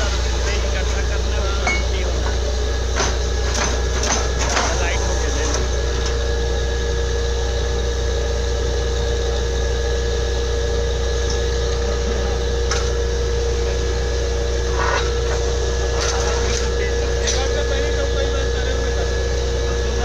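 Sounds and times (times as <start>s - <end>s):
drilling rig engine hum: 0.0s - 20.0s.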